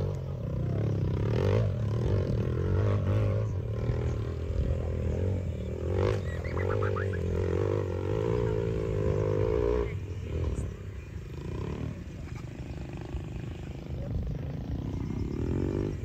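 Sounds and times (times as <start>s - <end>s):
motorcycle engine: 0.0s - 16.0s
bird chirps: 3.1s - 16.0s.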